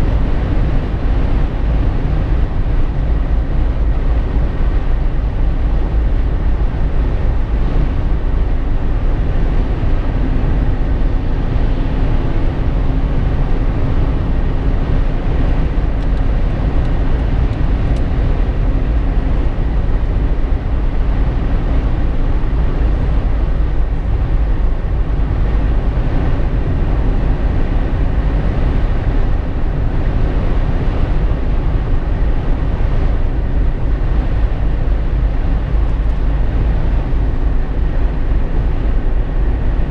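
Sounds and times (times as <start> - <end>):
road tyre and wind noise in cabin: 0.0 - 39.9.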